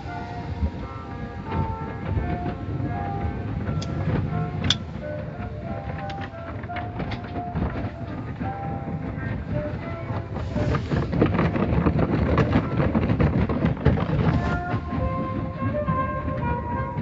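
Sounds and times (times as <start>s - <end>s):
music playing: 0.0s - 11.1s, 14.2s - 17.0s.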